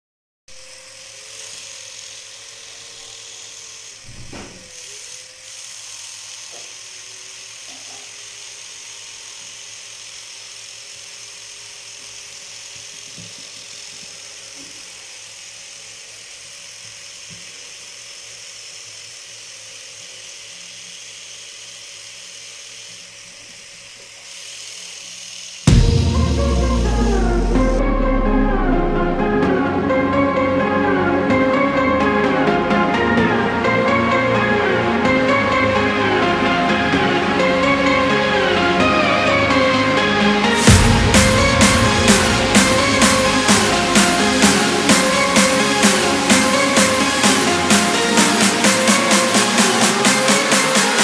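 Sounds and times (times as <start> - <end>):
high-pitched motor whine: 0.5 - 51.0.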